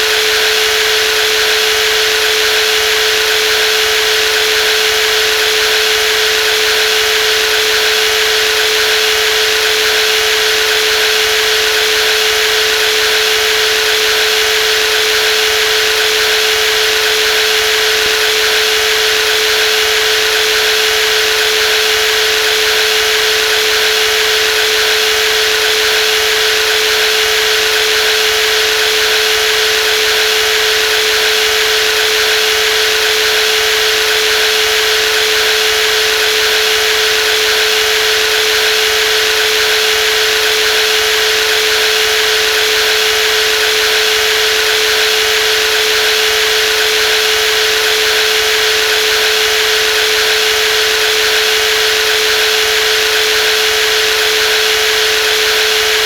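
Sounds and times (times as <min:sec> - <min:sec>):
jigsaw running: 0:00.0 - 0:56.0.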